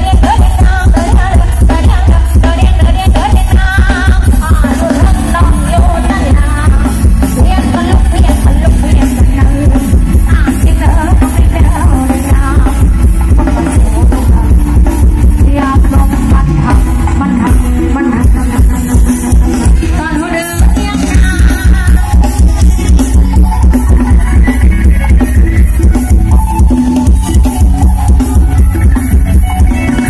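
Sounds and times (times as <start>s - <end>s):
loud music with singer and bass: 0.0s - 30.0s.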